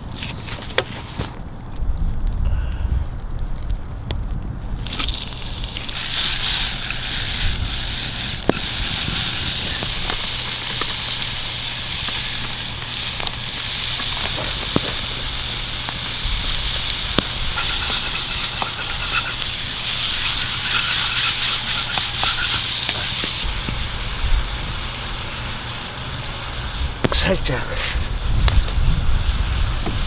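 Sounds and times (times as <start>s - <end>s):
fire crackling pops: 0.0s - 30.0s
food sizzling over campfire: 0.0s - 30.0s.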